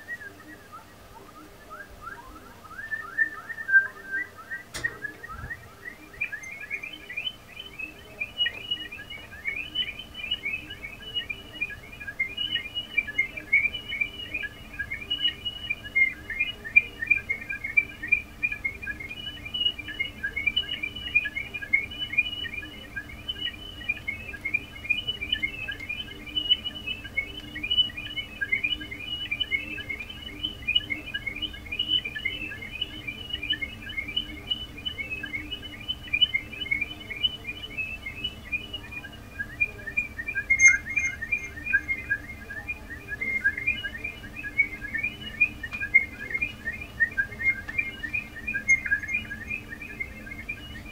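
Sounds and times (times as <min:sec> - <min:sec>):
synthesizer bird chirping: 0:00.0 - 0:50.9.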